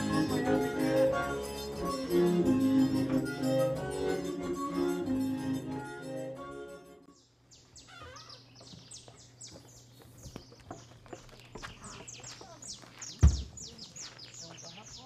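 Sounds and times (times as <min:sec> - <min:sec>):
birds chirping: 0:00.0 - 0:05.8, 0:07.0 - 0:15.0.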